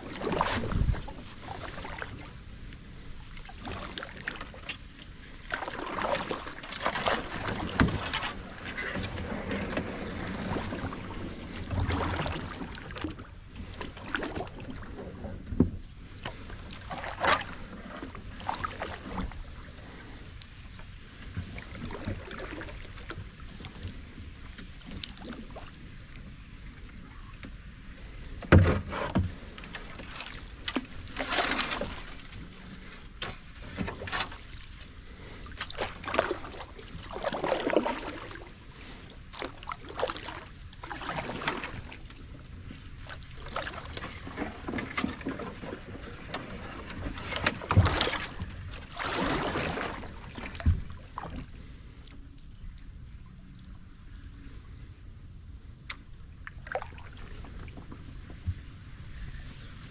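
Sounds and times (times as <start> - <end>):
paddle splashing through water: 0.0 - 52.2, 55.9 - 59.9.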